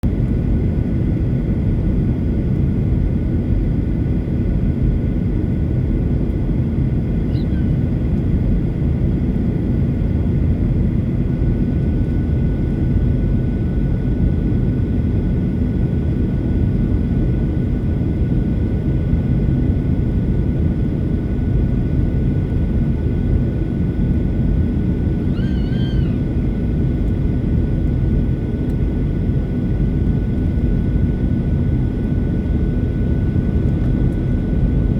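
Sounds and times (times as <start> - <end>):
airliner cabin engine rumble: 0.1 - 34.9.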